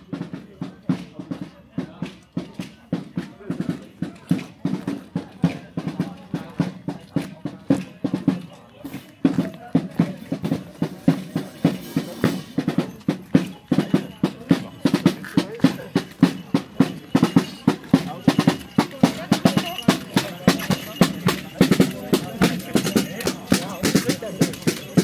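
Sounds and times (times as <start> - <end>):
parade band drums beating: 0.0 - 25.0.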